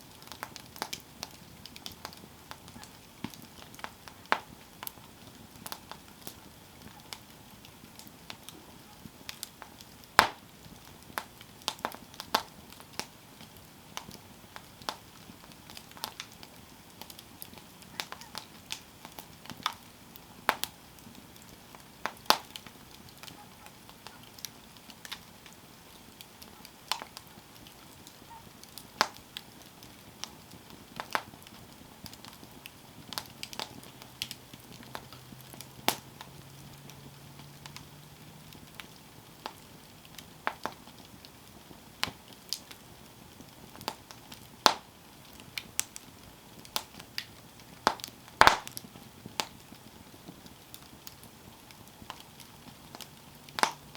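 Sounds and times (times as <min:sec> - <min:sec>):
campfire wood crackling and popping: 0:00.0 - 0:53.9
faint steady hiss: 0:00.0 - 0:53.9.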